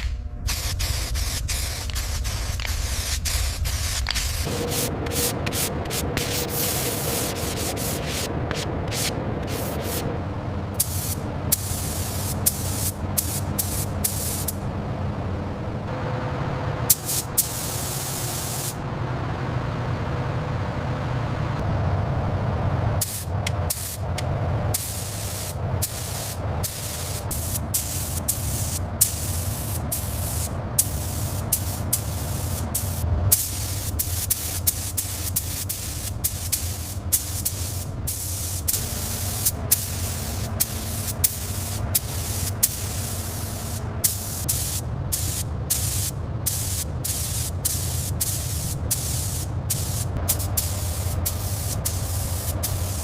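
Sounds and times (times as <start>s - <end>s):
air tool hissing: 0.0s - 10.1s, 10.8s - 14.6s, 16.9s - 18.8s, 23.0s - 53.0s
low machine hum: 0.0s - 53.0s.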